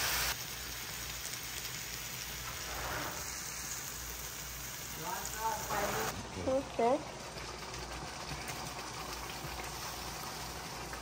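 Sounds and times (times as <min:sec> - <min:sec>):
spices sizzling in a pot: 0:00.0 - 0:11.0.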